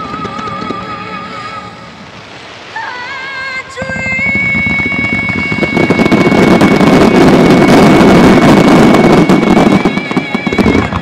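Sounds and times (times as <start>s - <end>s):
fireworks bursting rumble: 0.0s - 11.0s.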